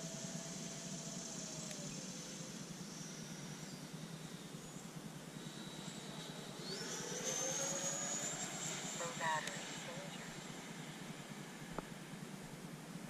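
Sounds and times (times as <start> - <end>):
electric ducted fans whining: 0.0 - 13.0.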